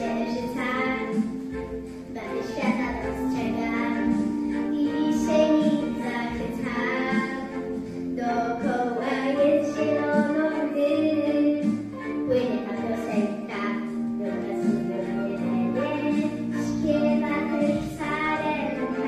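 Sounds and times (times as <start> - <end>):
girl singing into microphone: 0.0 - 1.2, 2.1 - 19.0
backing music: 0.0 - 19.0.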